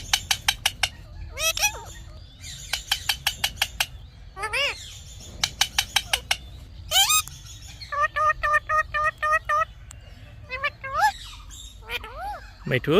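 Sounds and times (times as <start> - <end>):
parakeet screeching: 0.0 - 9.7, 10.4 - 12.8
parakeet chirps and squawks: 0.0 - 12.9.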